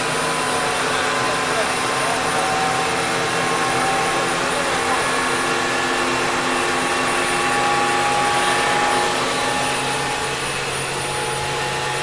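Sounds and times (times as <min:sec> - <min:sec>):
helicopter turbine engines running: 0:00.0 - 0:12.0.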